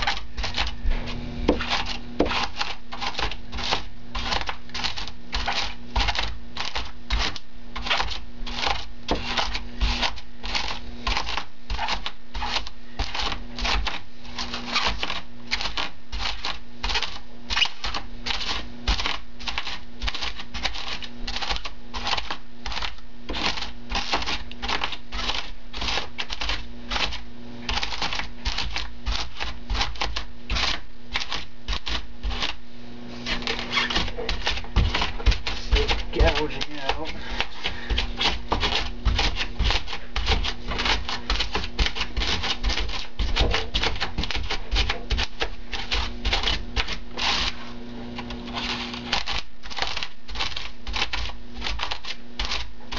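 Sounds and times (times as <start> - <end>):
tool scraping foam board: 0.0 - 52.9.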